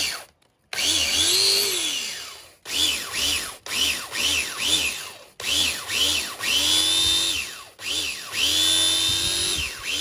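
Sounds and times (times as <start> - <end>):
electric drill with wire brush: 0.0 - 10.0.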